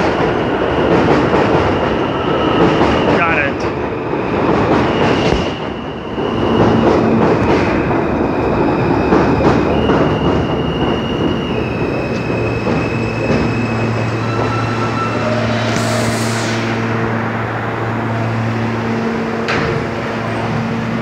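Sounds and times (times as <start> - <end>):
low train hum: 0.0 - 21.0
train wheels rumbling on track: 0.0 - 21.0.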